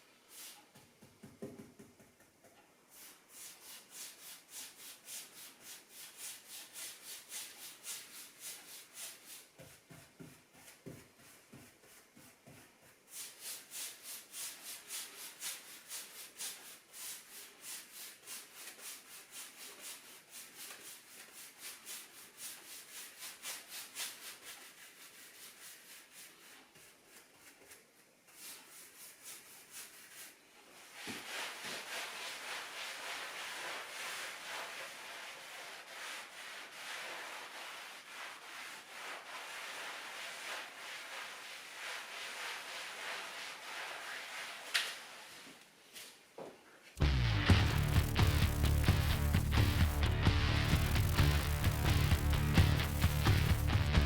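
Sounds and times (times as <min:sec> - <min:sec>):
rubbing strokes on wood: 0:02.9 - 0:45.5, 0:47.5 - 0:54.0.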